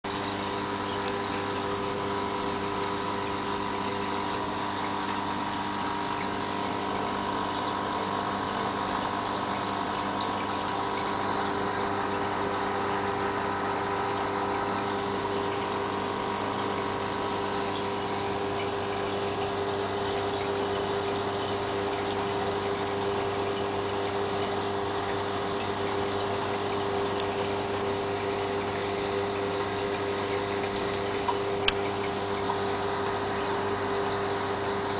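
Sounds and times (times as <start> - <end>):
aquarium air pump humming: 0.0 - 34.9.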